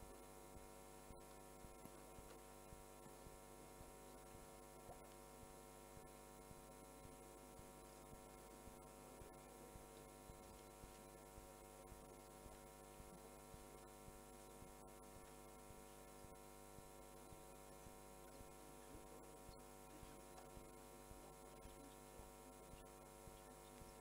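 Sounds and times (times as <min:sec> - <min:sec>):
faint electrical hum: 0:00.0 - 0:24.0
faint regular pulsing: 0:00.0 - 0:24.0.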